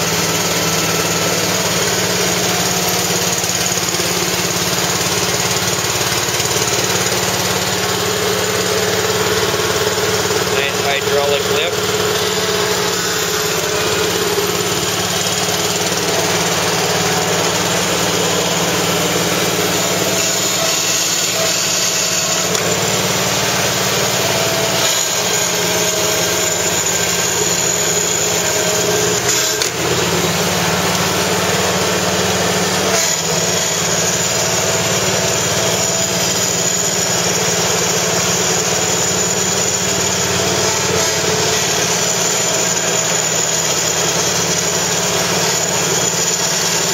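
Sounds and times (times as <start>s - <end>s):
tractor engine idling: 0.0s - 46.9s.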